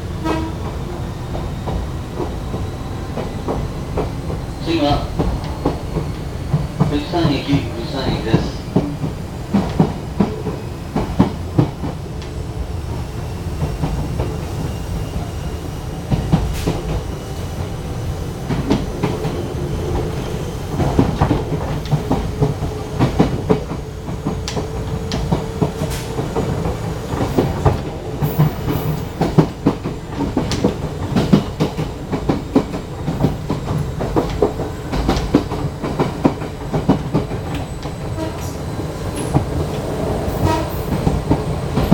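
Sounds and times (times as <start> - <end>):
train low rumble: 0.0 - 41.9
train wheels clacking over rail joints: 0.2 - 17.8, 18.4 - 41.9.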